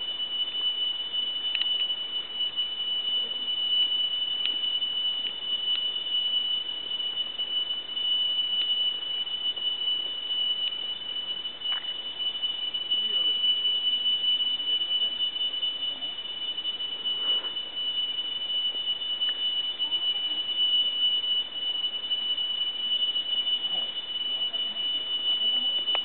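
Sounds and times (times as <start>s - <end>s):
tree crickets singing: 0.0s - 26.0s.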